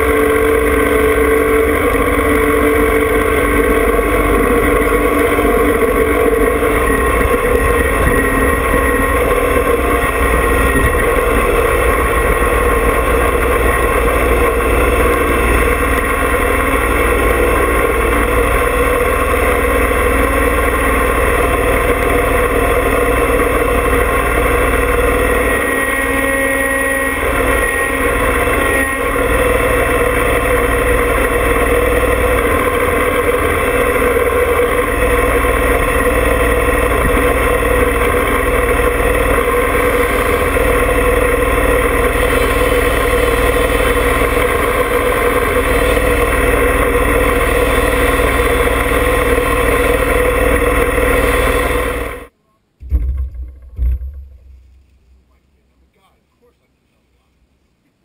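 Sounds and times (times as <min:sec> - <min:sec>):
tractor diesel engine running: 0:00.0 - 0:55.8.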